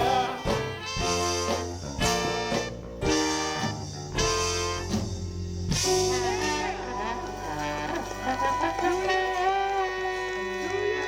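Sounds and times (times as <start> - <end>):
bass and drums: 0.0 - 11.0
horn section punchy chords: 0.0 - 11.0.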